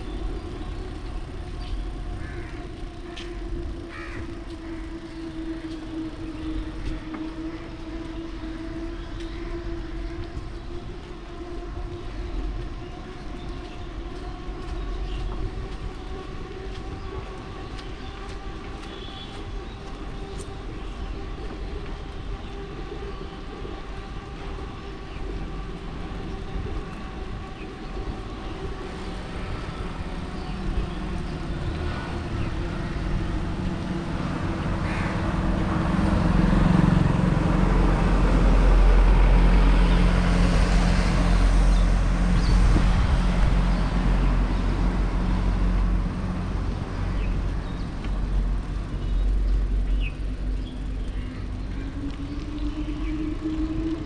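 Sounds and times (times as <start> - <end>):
bicycle tyres on wet tarmac: 0.0 - 54.0.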